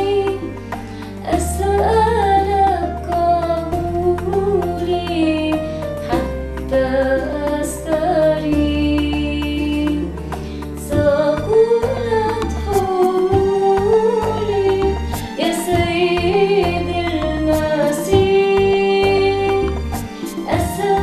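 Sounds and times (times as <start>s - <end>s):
woman singing a hymn: 0.0s - 0.6s, 1.2s - 21.0s
instrumental backing with bass: 0.0s - 21.0s.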